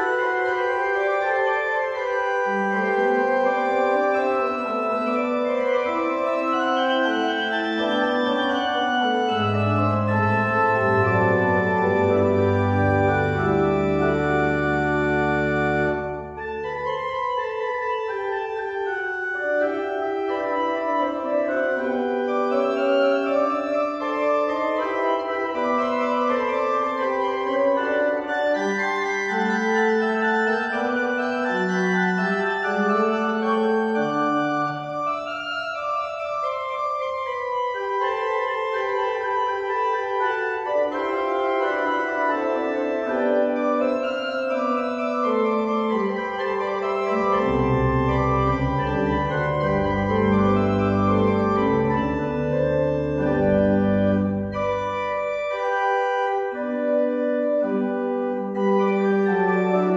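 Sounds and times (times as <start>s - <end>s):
pipe organ playing: 0.0s - 59.9s.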